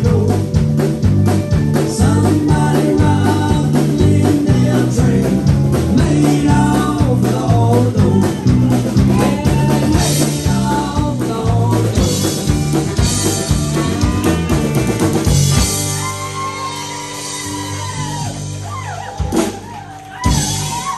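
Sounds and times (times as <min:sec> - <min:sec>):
drum kit beat: 0:00.0 - 0:20.9
electric bass guitar: 0:00.0 - 0:20.9.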